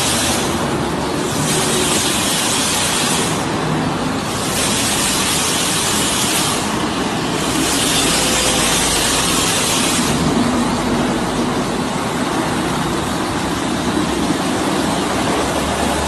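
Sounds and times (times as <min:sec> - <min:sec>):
car wash brush and water spray: 0:00.0 - 0:16.0.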